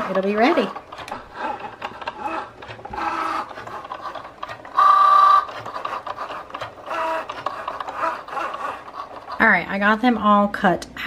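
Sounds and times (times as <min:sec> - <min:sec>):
cutting machine motors whirring: 0:00.0 - 0:09.6.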